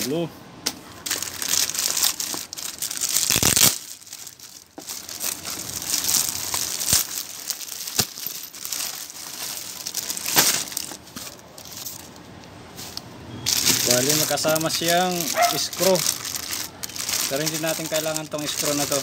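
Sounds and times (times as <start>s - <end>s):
plastic film crinkling: 0.9s - 12.2s, 12.8s - 19.0s.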